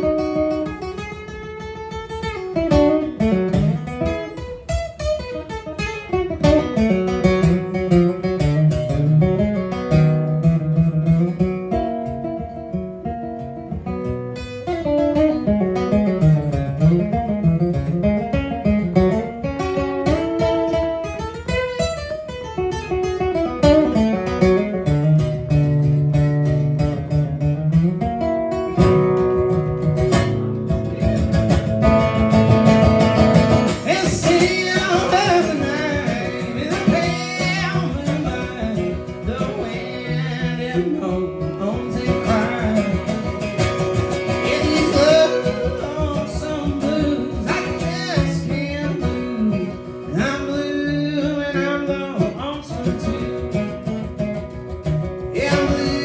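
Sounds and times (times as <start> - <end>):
acoustic band playing bluegrass: 0.0 - 56.0
strummed acoustic guitar: 0.0 - 56.0.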